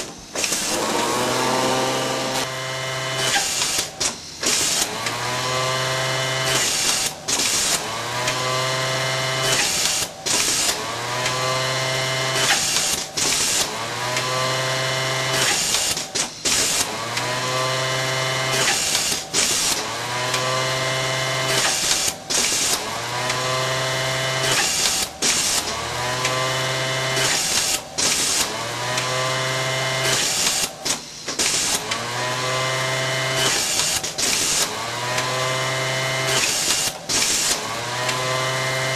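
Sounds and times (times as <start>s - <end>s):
industrial sewing machine whine: 0.3s - 38.9s.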